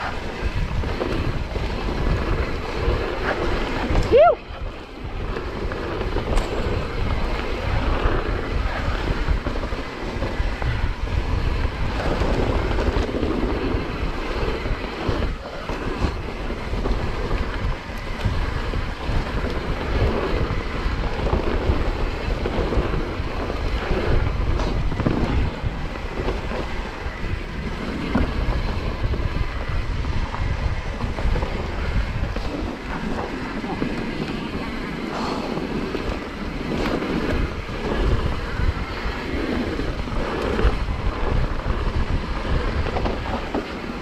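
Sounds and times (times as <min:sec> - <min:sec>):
bike rattling over rocks: 0:00.0 - 0:44.0
bike tyres rumbling: 0:00.0 - 0:44.0
wind on microphone: 0:00.0 - 0:44.0.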